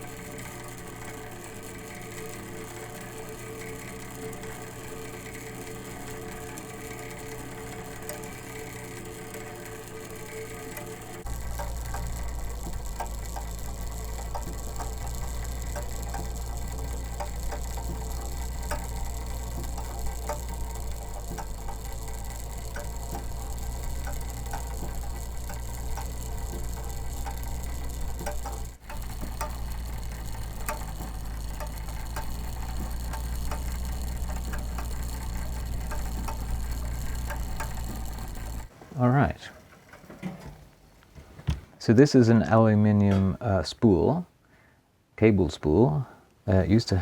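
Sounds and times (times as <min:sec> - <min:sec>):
steady low hum: 0:00.0 - 0:39.5
clockwork mechanism ticking: 0:00.0 - 0:40.4.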